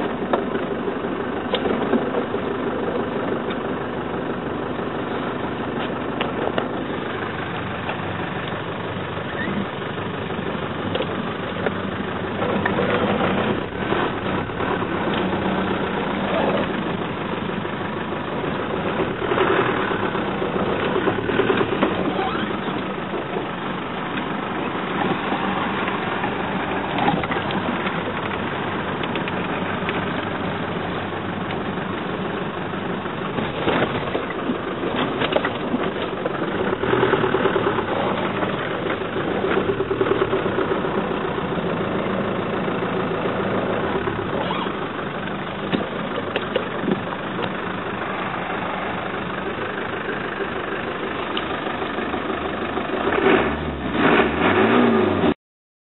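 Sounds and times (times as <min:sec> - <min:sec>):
vehicle engine running: 0:00.0 - 0:55.4.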